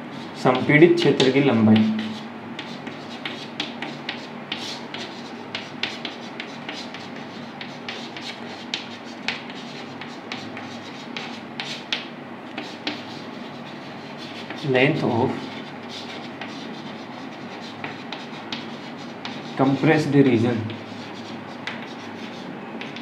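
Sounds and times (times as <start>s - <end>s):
chalk tapping and scraping: 0.0s - 19.9s, 20.6s - 23.0s
low room hum: 0.0s - 23.0s.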